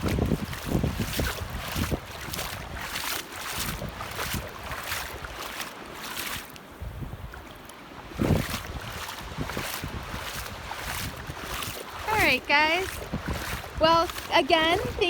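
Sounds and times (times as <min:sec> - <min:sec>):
wind buffeting microphone: 0:00.0 - 0:05.5, 0:06.7 - 0:15.0
surf washing: 0:00.0 - 0:15.0.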